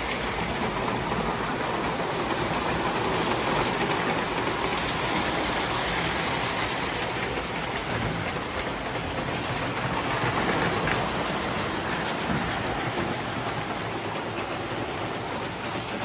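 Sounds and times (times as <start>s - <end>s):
model train wheels rolling on track: 0.0s - 16.0s.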